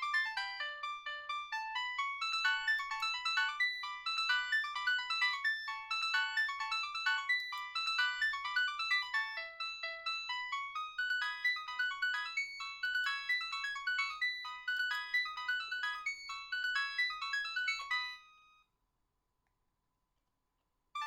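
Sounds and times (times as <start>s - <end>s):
polyphonic ringtone melody: 0.0s - 18.6s.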